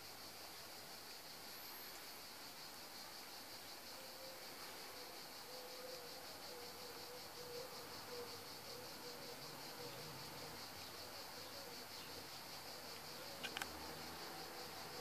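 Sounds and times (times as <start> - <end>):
faint hiss: 0.0 - 15.0
high-pitched insect trill: 0.0 - 15.0.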